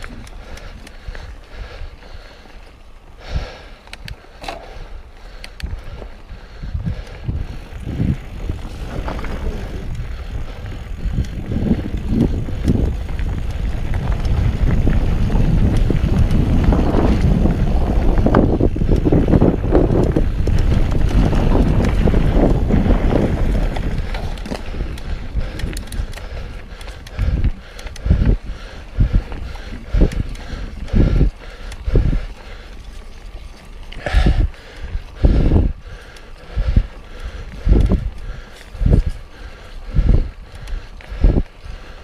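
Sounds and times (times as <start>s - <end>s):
bike rattling and clicking: 0.0s - 42.0s
wind buffeting microphone: 0.0s - 42.0s.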